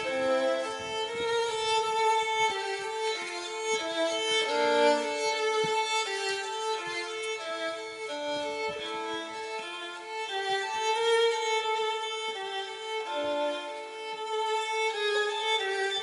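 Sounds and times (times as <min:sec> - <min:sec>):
slow violin music: 0:00.0 - 0:16.0.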